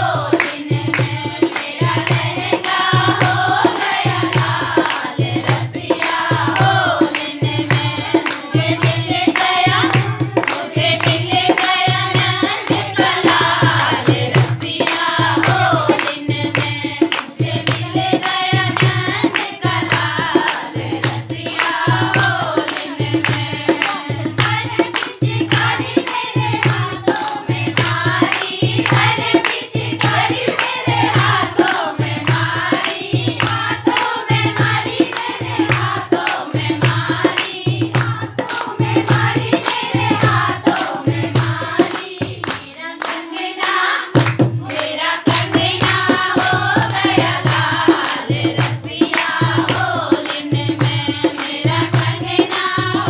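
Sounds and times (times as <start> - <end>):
group singing folk song: 0.0 - 53.0
rhythmic hand-clapping: 0.0 - 53.0.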